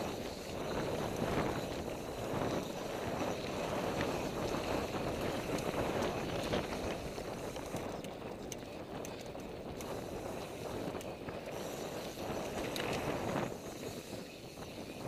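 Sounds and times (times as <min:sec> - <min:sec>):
tyres rushing on dirt: 0:00.0 - 0:14.9
bike clicks: 0:00.0 - 0:15.0
wind buffeting microphone: 0:00.0 - 0:15.0.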